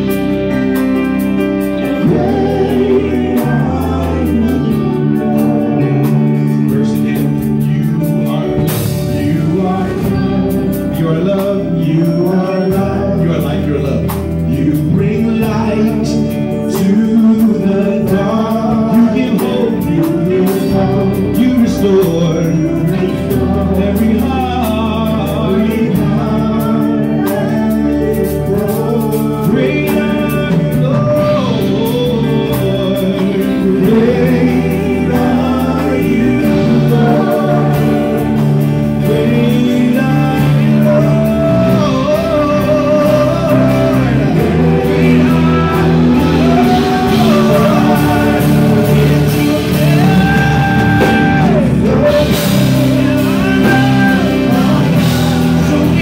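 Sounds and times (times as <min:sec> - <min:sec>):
guitar: 0:00.0 - 0:56.0
keyboard: 0:00.0 - 0:56.0
man singing gospel song: 0:00.0 - 0:56.0.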